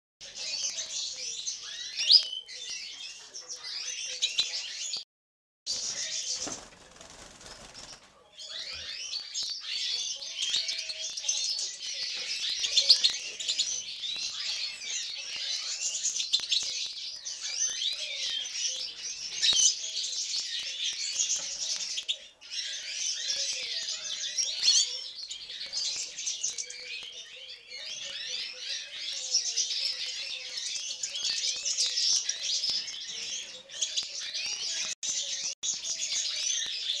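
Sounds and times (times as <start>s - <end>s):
bird twittering song: 0.2s - 5.0s, 5.7s - 37.0s.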